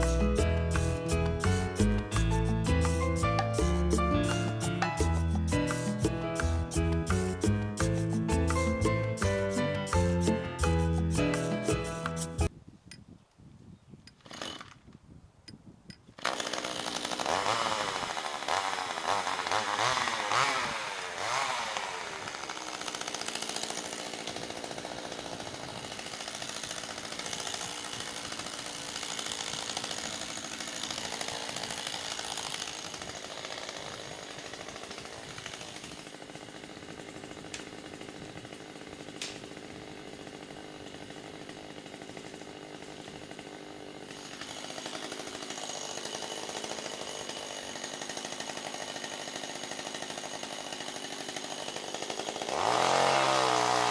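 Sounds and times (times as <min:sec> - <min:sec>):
chainsaw cutting wood: 0:00.0 - 0:12.5, 0:14.1 - 0:53.9.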